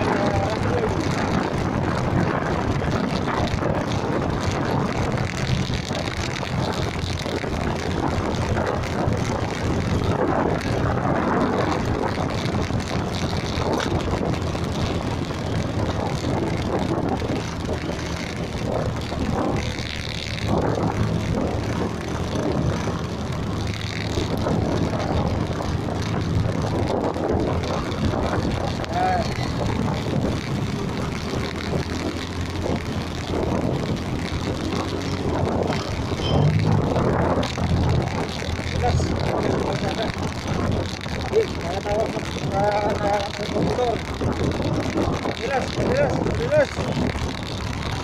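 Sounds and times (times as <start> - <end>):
road noise: 0.0 - 48.0
vehicle engine drone: 0.0 - 48.0.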